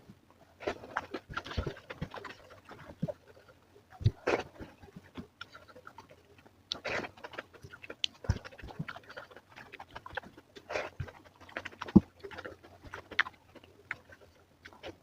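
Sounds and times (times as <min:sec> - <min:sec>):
chewing with wet mouth clicks: 0:00.6 - 0:15.0.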